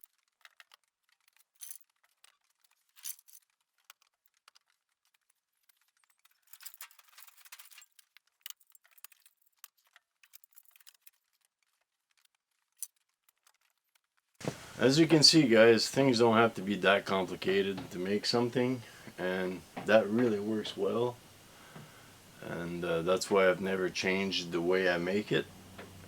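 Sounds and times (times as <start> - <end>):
faint clicks and rattles: 0.0 - 26.0.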